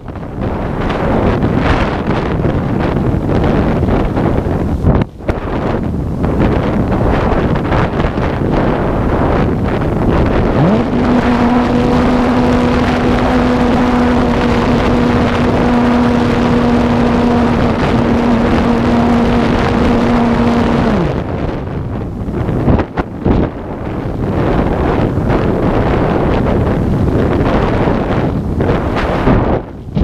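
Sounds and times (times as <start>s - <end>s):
steady motor hum: 0.0s - 30.0s
wind buffeting microphone: 0.0s - 30.0s.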